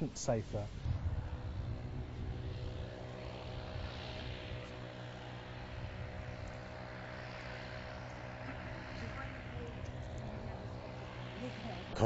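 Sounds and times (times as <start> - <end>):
propeller engine running: 0.0 - 12.0.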